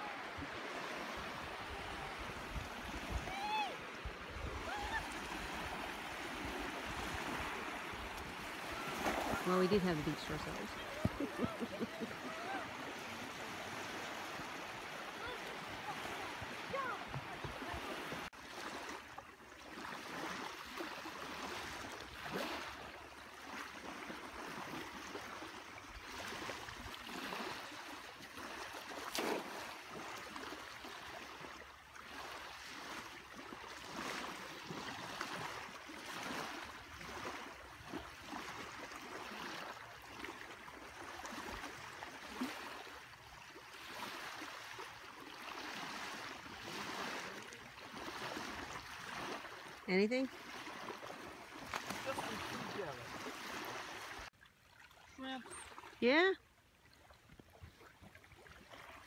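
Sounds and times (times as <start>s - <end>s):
small waves washing onto sand: 0.0s - 59.0s.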